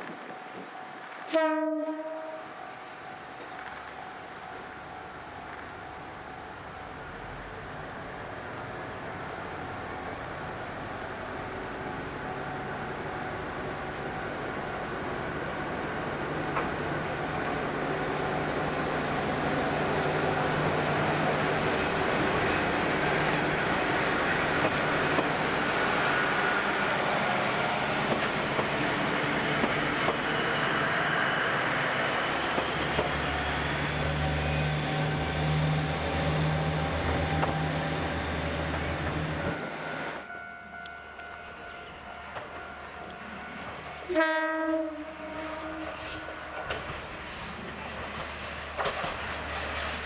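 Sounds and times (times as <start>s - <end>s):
train wheel and rail noise: 0.0s - 50.0s.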